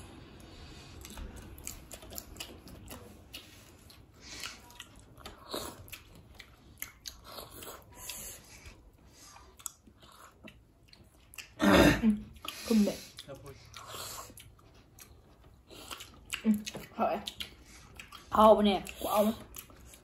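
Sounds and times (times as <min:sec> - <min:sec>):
people chewing food: 0:00.0 - 0:20.0.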